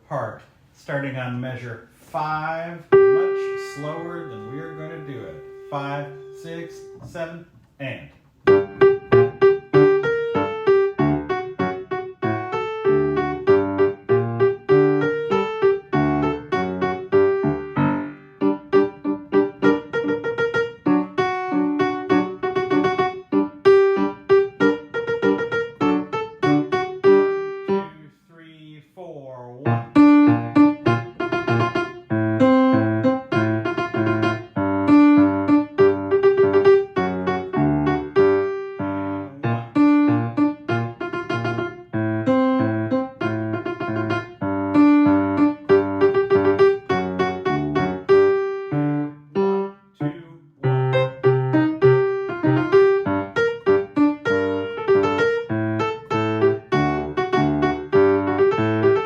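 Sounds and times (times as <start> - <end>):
slow piano playing: 2.8 - 7.2, 8.4 - 28.0, 29.6 - 59.0.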